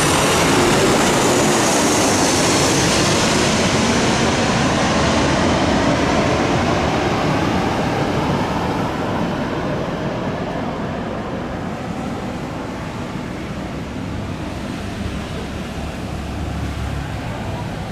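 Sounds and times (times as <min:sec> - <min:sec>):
airplane roar with high whine: 0:00.0 - 0:17.9.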